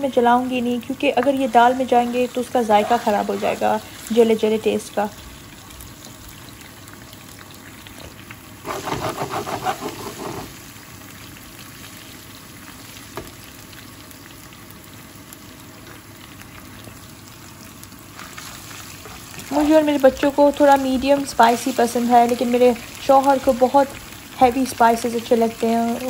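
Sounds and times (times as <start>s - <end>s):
spices sizzling in oil: 0.0s - 26.0s.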